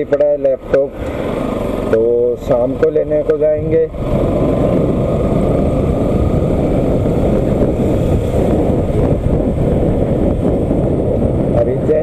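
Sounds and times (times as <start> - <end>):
wind rushing over microphone: 0.0 - 12.0
motorcycle engine running: 0.9 - 11.6.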